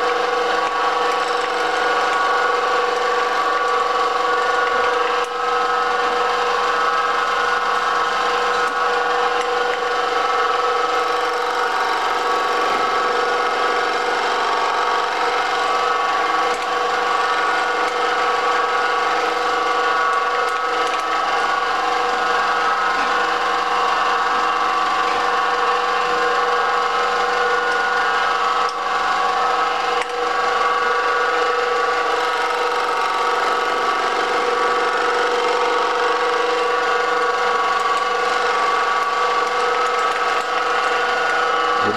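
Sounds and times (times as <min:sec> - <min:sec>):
milling machine motor whining: 0:00.0 - 0:41.9.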